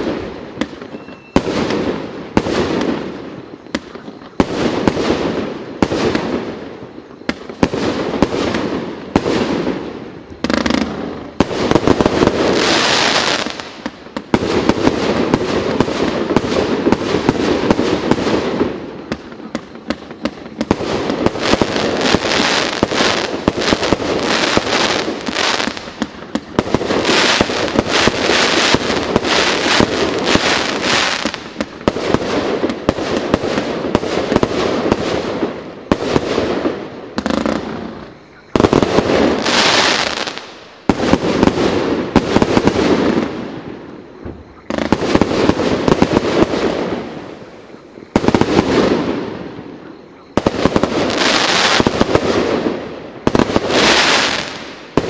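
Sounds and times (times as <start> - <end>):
firework bursts: 0.0 - 55.0
firework crackling: 0.0 - 55.0.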